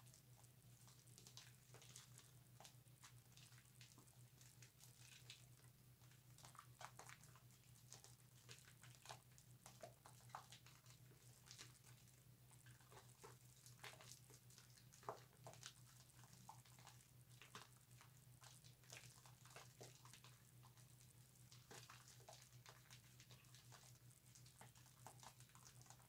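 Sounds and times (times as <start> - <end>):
soap lather squishing: 0.0 - 26.0.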